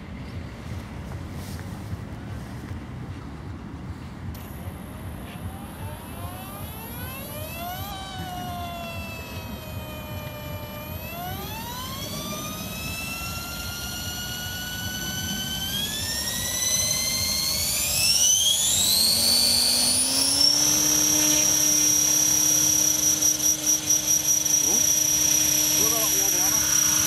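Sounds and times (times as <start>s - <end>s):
model helicopter whining: 4.2s - 27.0s.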